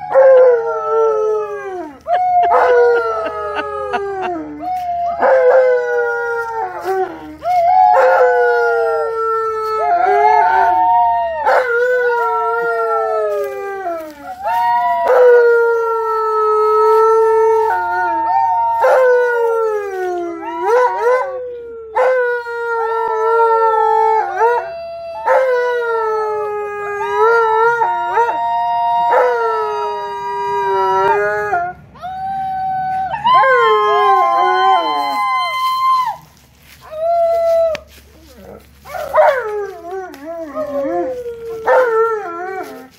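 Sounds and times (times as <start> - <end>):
dog howling: 0.0 - 36.2, 36.8 - 42.9
people howling: 0.0 - 42.9.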